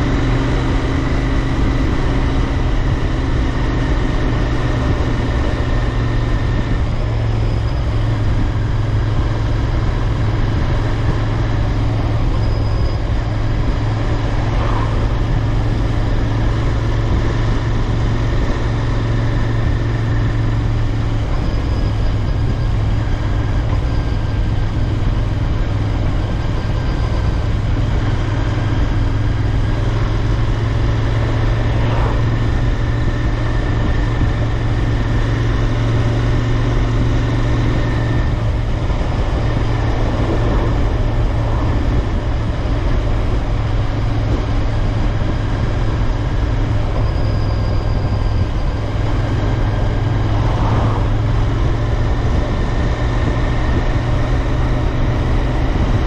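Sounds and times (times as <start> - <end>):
motorcycle engine and exhaust running: 0.0 - 56.0.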